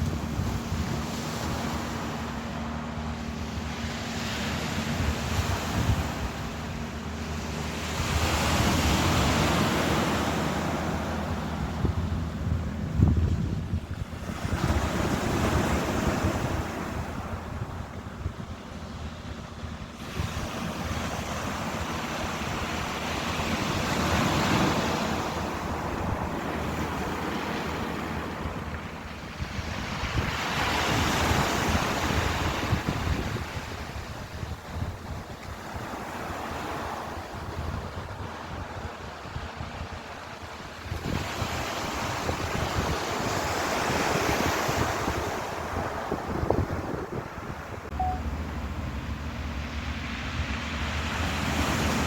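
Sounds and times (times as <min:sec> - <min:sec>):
ocean waves breaking: 0:00.0 - 0:52.0
wind rumbling on microphone: 0:00.0 - 0:52.0.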